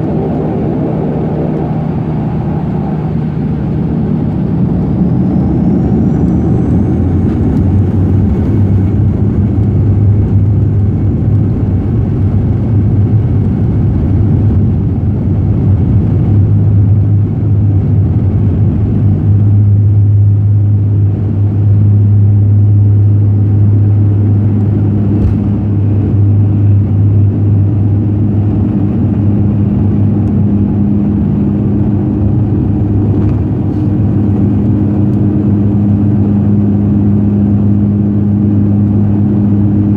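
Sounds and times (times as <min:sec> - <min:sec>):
turboprop engines drone: 0:00.0 - 0:39.9.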